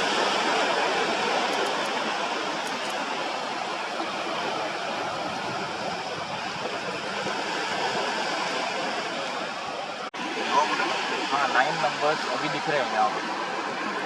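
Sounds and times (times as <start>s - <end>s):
sea surf on a sandy beach: 0.0s - 14.0s.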